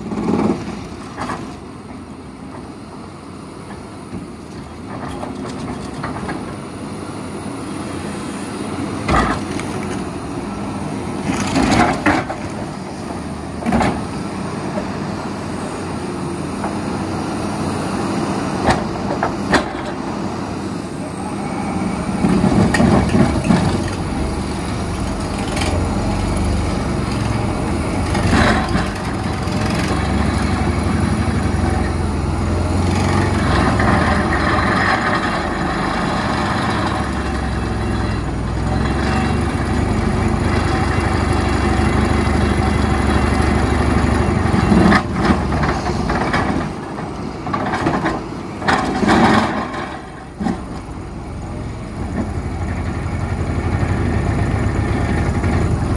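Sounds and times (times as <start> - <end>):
diesel engine under load: 0.0 - 55.9.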